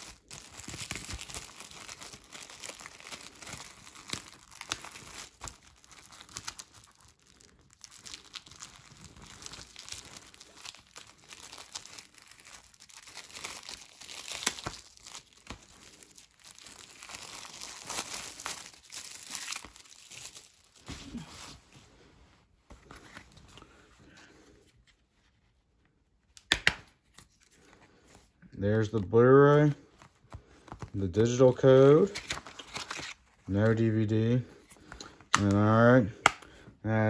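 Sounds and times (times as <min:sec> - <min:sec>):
plastic shrink wrap crinkling: 0:00.0 - 0:23.8, 0:29.6 - 0:36.4.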